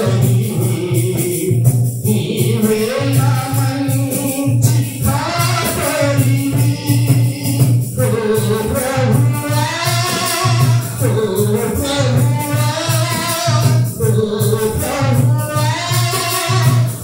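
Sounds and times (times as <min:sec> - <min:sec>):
devotional song singing: 0:00.0 - 0:17.0
pulsing beat: 0:00.0 - 0:17.0.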